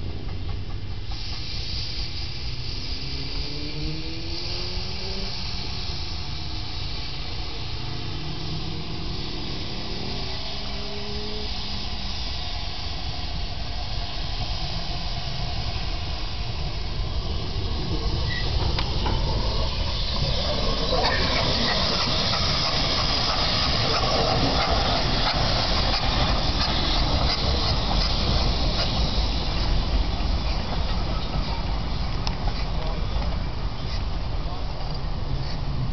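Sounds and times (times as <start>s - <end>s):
steam hissing: 0.0s - 35.9s
steam locomotive approaching: 0.0s - 35.9s.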